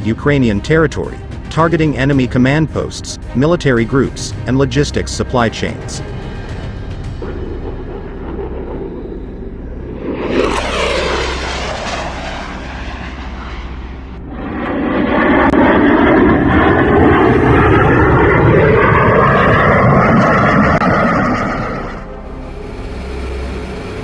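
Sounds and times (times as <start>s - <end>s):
jet engine whine: 0.0s - 24.0s
jet passing: 0.0s - 24.0s.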